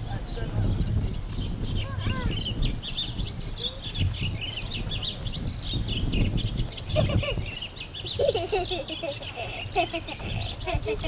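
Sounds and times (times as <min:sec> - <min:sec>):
small birds twittering: 0:00.0 - 0:11.0.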